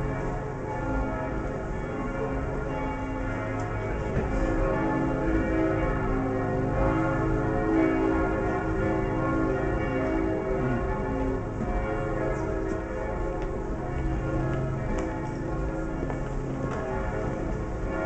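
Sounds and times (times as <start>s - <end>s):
church bells pealing: 0.0s - 18.0s.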